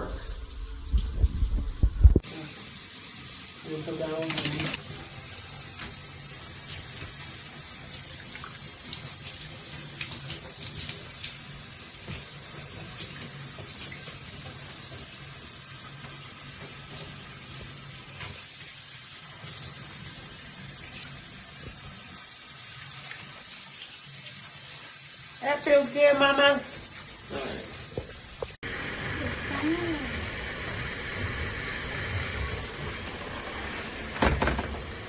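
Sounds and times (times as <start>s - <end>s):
shower spraying water: 0.0s - 35.0s.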